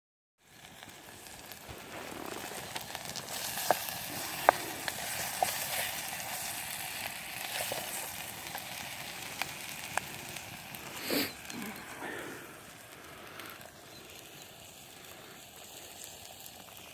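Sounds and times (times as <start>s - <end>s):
wood fire crackling: 0.4s - 16.9s.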